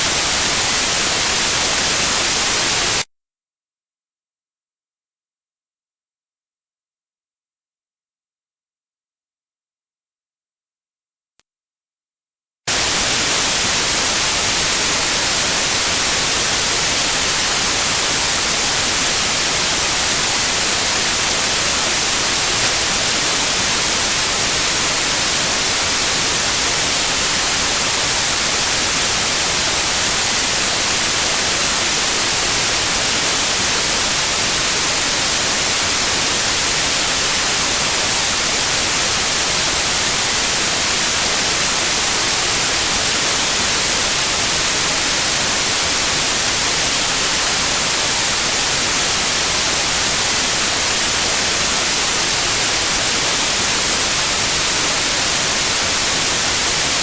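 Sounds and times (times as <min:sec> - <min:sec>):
white noise hiss: 0:00.0 - 0:03.0, 0:12.7 - 0:57.0
high-pitched pure tone: 0:00.0 - 0:03.1, 0:12.7 - 0:57.0.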